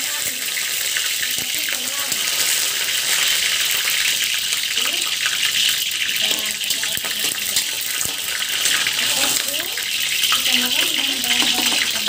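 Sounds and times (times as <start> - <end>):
ghee sizzling in a wok: 0.0 - 12.0.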